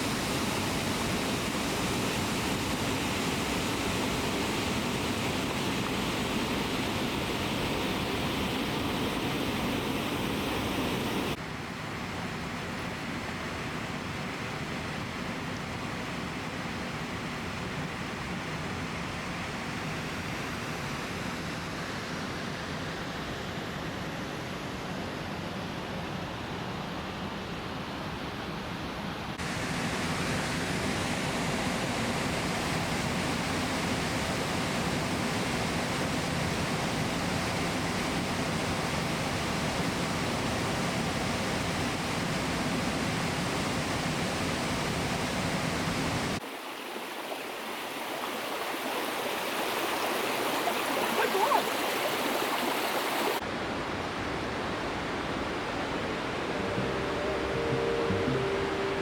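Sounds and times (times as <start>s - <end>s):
stream water rushing: 0.0s - 23.7s, 29.4s - 59.0s.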